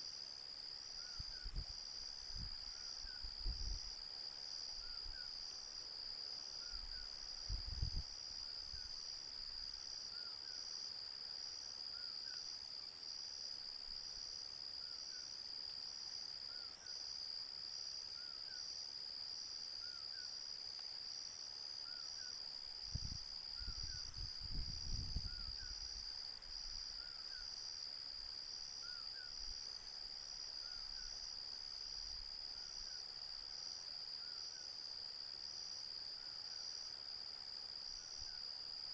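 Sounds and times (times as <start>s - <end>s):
night insects chorus: 0.0s - 38.9s.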